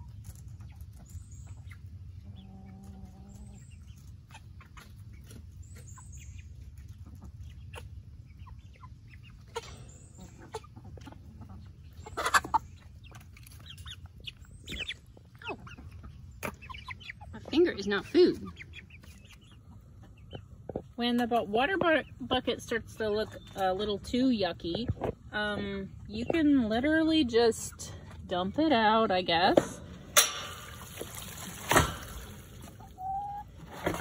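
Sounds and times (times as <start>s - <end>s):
hens clucking: 0.0s - 34.0s.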